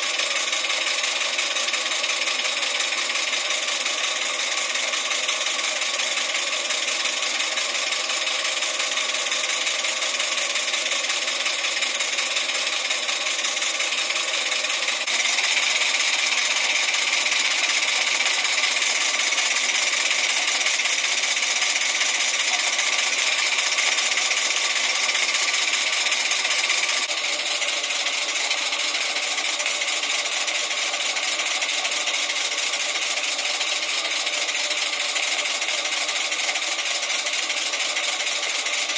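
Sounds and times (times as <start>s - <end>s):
steam engine mechanical beat: 0.0s - 38.9s.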